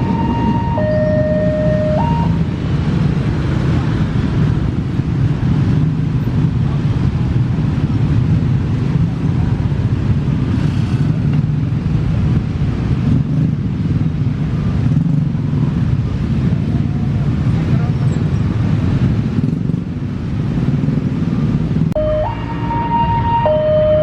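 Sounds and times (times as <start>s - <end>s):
low vehicle engine drone: 0.0s - 24.0s.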